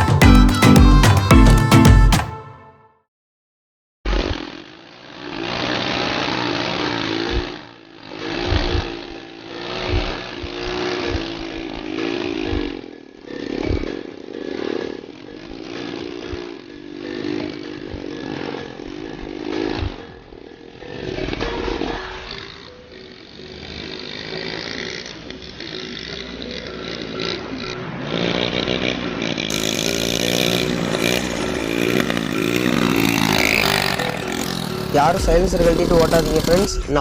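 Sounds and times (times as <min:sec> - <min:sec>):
motorcycle engine revving: 0:04.3 - 0:37.0.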